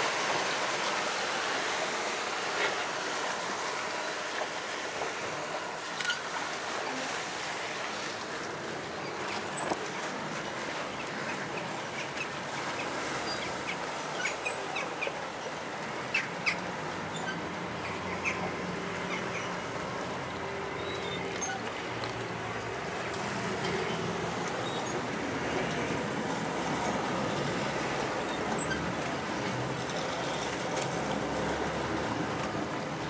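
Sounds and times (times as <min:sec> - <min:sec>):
boat engine humming: 0:00.0 - 0:33.0
water noise: 0:00.0 - 0:33.0
wind: 0:00.0 - 0:33.0.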